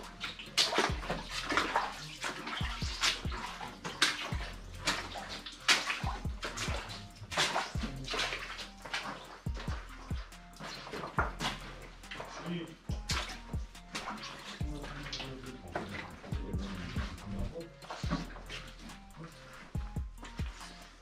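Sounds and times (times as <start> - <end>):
footsteps splashing through water: 0.0 - 21.0
music beat with kick-drum thumps: 0.0 - 21.0.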